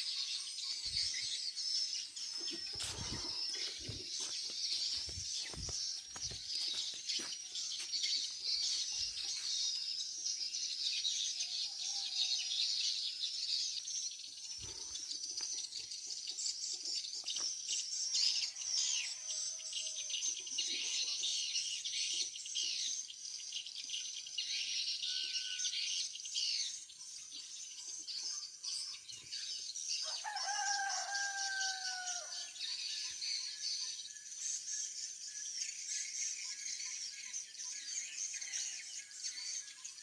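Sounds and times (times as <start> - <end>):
small birds twittering: 0.0 - 40.0.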